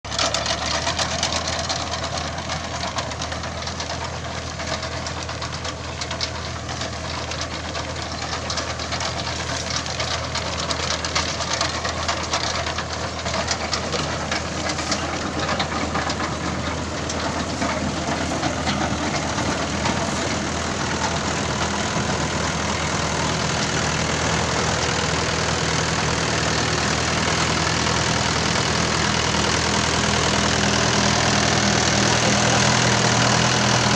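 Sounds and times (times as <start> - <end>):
tractor diesel engine droning: 0.0 - 33.9
rattle of fine clicks: 0.1 - 33.8.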